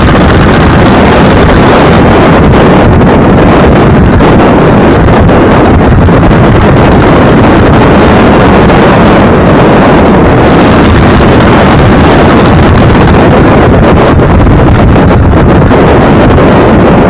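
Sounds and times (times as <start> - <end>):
road noise from moving vehicle: 0.0 - 17.0
wind buffeting microphone: 0.0 - 17.0.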